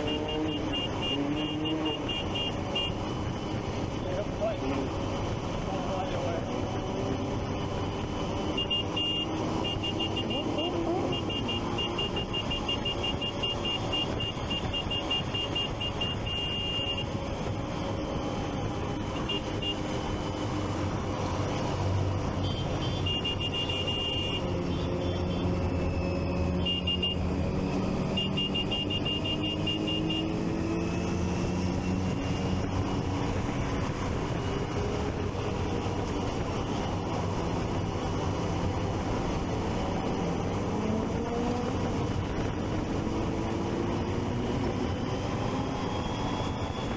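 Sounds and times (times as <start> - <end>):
low traffic rumble: 0.0 - 46.9.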